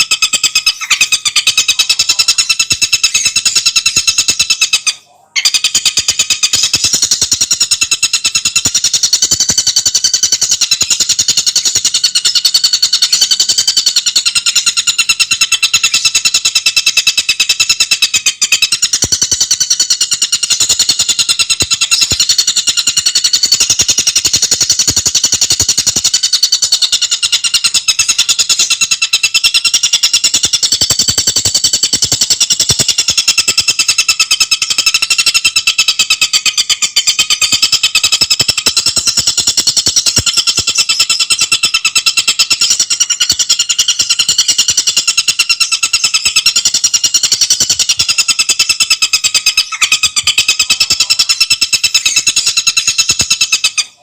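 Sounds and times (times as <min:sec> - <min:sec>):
bird rattling trill: 0:05.4 - 0:54.0.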